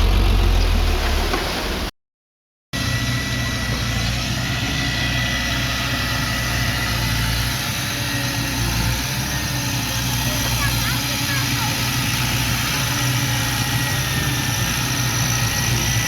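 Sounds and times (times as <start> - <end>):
diesel engine running: 0.0 - 1.9, 2.8 - 16.0.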